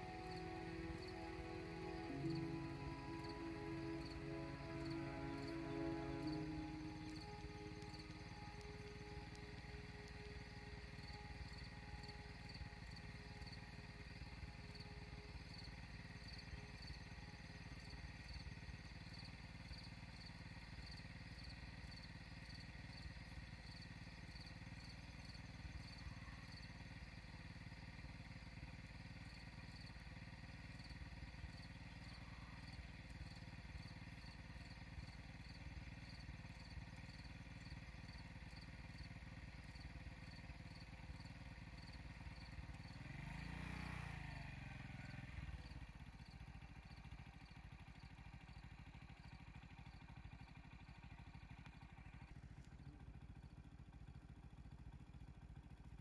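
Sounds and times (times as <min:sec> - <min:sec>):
insects chirping: 0:00.0 - 0:27.4, 0:28.9 - 0:44.1, 0:45.0 - 0:51.2.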